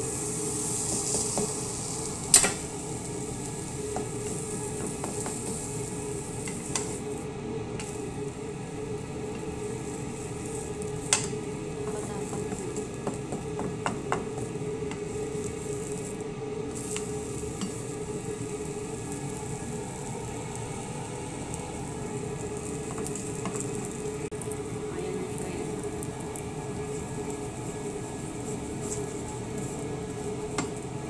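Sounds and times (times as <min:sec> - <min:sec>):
bread sizzling in a pan: 0:00.0 - 0:31.0
constant hum: 0:00.0 - 0:31.0.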